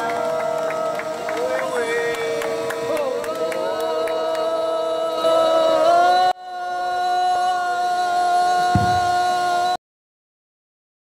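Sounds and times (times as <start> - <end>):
voices singing a chant-like chorus: 0.0 - 9.8.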